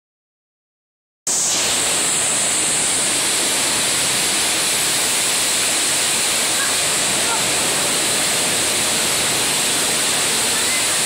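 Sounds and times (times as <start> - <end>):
water rushing in a fountain: 1.3 - 11.0.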